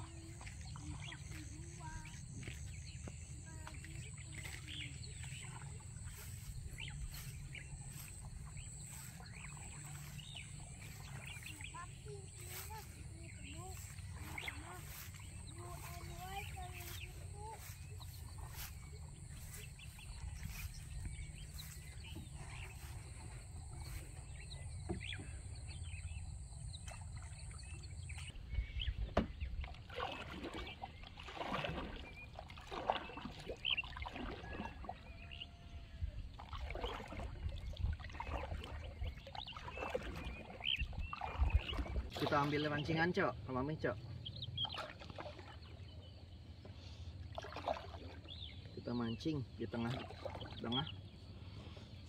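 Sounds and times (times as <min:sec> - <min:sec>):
paddles splashing water: 0:00.0 - 0:52.0.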